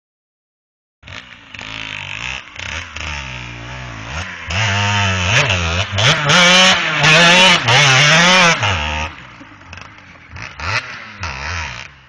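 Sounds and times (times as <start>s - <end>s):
dirt bike engine revving: 1.0s - 12.0s.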